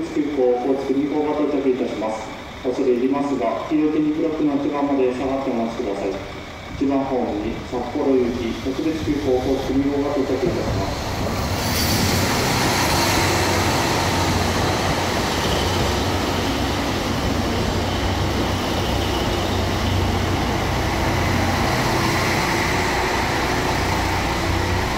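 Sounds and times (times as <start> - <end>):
train wheels on rails: 0.0 - 24.9.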